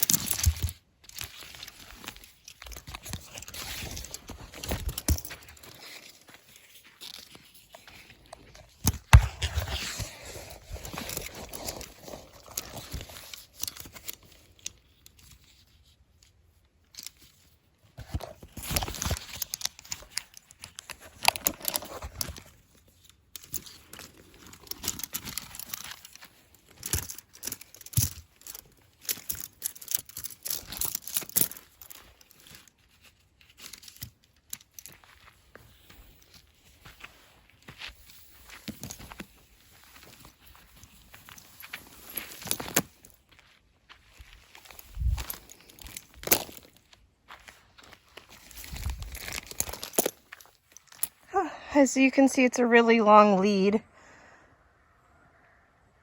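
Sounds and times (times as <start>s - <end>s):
rustling and crunching: 0.0s - 51.4s.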